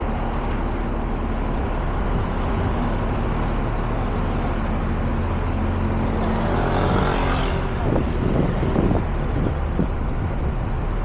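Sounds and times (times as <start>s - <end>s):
road noise: 0.0s - 11.0s
vehicle engines rumbling: 0.0s - 11.0s.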